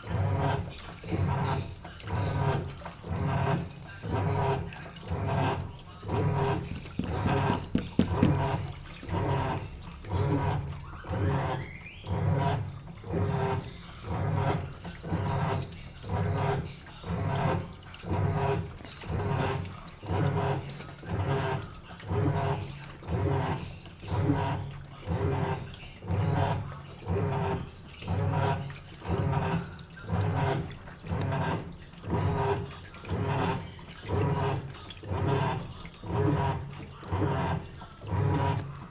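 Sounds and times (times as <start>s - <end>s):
washing machine motor hum: 0.0s - 38.9s
washing machine water sloshing: 0.0s - 38.9s.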